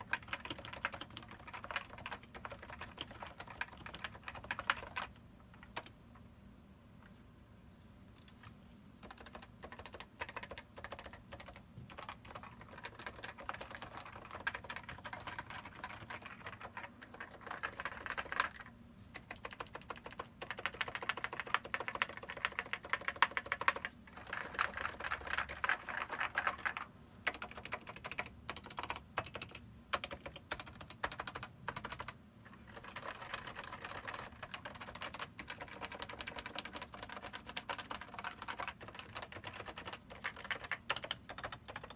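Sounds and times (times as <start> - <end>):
fast keyboard typing: 0.0 - 6.0, 9.0 - 41.9.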